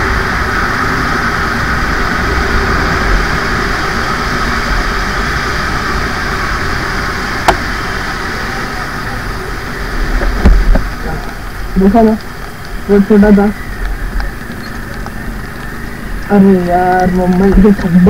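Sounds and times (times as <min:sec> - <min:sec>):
motorcycle engine: 0:00.0 - 0:18.0
tyres on wet road: 0:00.0 - 0:18.0.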